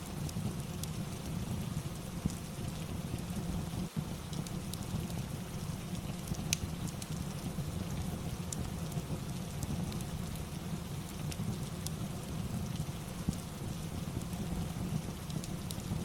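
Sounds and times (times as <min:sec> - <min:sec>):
fireplace crackles: 0:00.0 - 0:16.0
steady rain: 0:00.0 - 0:16.0.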